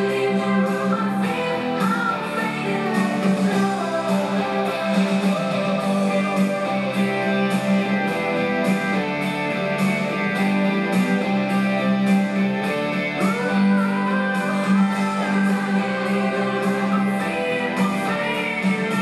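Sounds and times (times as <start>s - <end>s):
guitar music: 0.0s - 19.0s.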